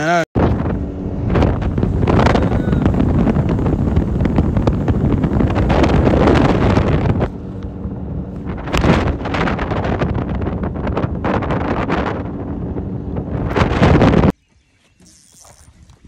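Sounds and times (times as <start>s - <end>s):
boat motor hum: 0.0s - 16.0s
wind buffeting microphone: 0.4s - 14.4s.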